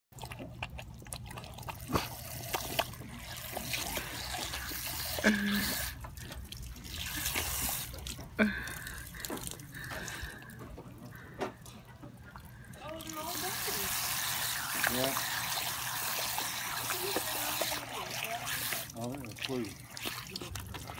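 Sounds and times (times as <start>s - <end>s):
puppy lapping and biting water: 0.1s - 20.9s
water splashing: 0.1s - 20.9s.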